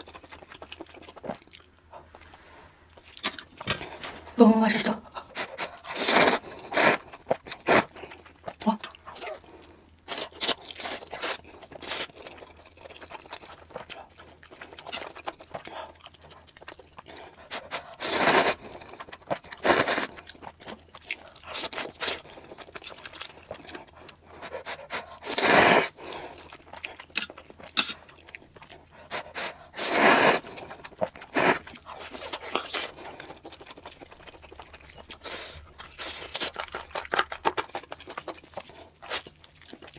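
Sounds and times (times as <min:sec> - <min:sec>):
chewing and mouth smacks: 0:00.0 - 0:04.3, 0:05.2 - 0:25.3, 0:25.9 - 0:29.8, 0:30.4 - 0:39.9.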